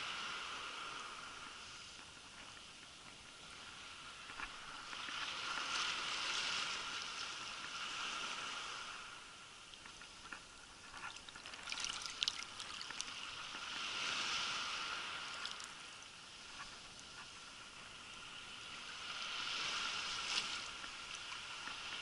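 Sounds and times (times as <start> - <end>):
muffled underwater water rushing: 3.4 - 22.0.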